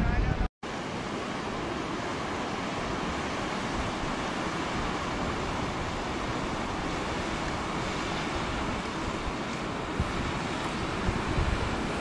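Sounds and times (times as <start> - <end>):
ocean surf on rocks: 0.0 - 12.0
wind: 0.0 - 12.0.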